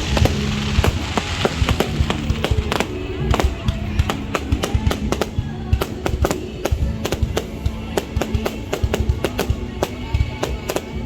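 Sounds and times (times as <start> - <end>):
fireworks bangs and cracks: 0.0 - 11.0
music playing: 0.0 - 11.0.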